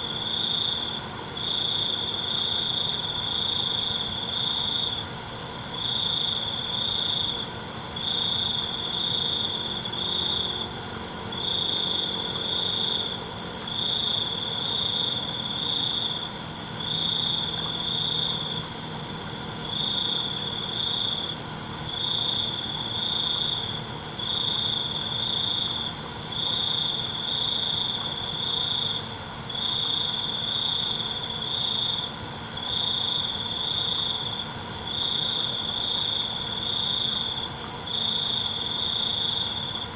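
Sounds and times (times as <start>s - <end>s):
chorus of insects: 0.0s - 39.9s
crickets chirping: 0.0s - 39.9s.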